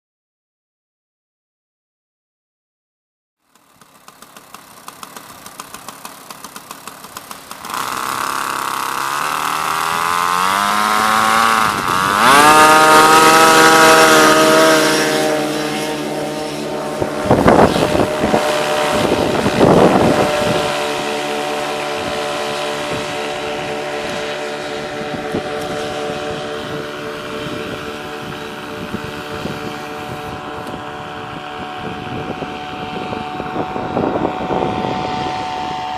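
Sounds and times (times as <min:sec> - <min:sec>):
paramotor engine revving: 0:03.8 - 0:35.9.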